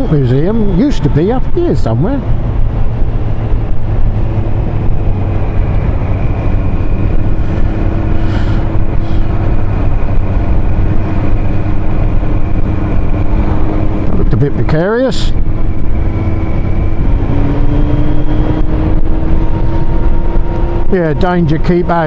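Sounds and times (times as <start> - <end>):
motorcycle engine cruising: 0.0 - 22.0
wind and road rush: 0.0 - 22.0.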